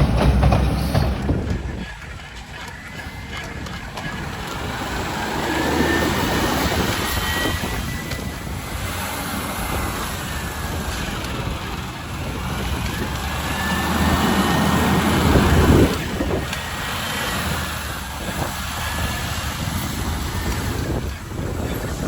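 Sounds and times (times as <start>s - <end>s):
garbage truck engine running: 0.0s - 22.0s.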